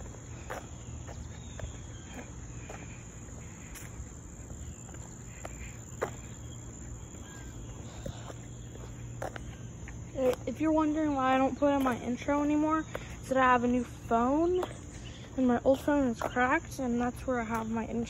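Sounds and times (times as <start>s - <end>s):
footsteps on asphalt: 0.0s - 18.0s
insects chirping: 0.0s - 18.0s.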